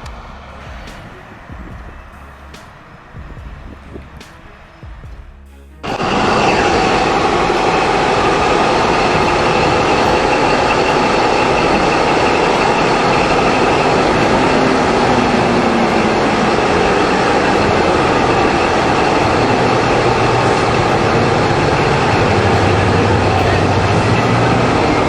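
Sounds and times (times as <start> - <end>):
heavy vehicle running: 0.0 - 25.0.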